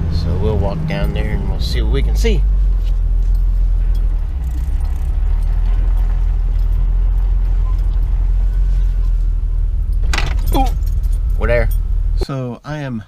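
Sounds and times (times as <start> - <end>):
engine drone: 0.0 - 12.2
road noise inside vehicle: 0.0 - 12.3.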